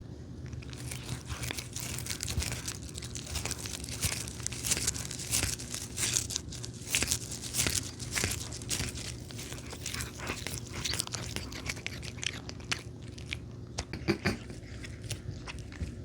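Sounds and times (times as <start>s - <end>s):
cats crunching food: 0.3s - 16.0s
tearing sounds: 0.5s - 16.0s.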